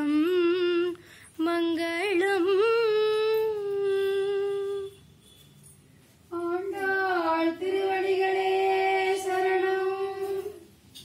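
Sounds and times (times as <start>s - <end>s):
women singing unaccompanied: 0.0s - 5.0s, 6.3s - 10.8s.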